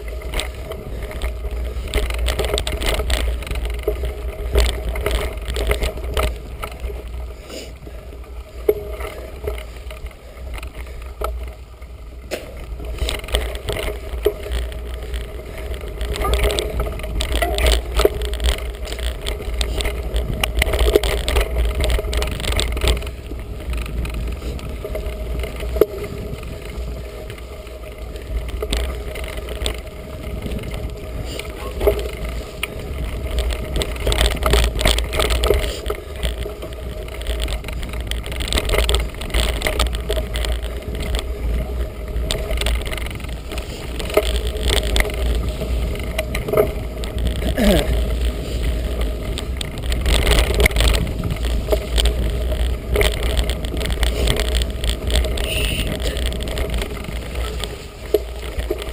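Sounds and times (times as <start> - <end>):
bike clicks and rattles: 0.0 - 58.9
bike tyre noise: 0.0 - 58.9
wind rumbling on microphone: 0.0 - 58.9.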